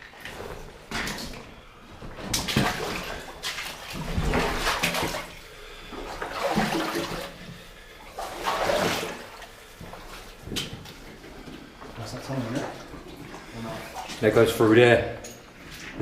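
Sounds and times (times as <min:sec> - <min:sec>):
feet wading through water: 0:00.0 - 0:14.5.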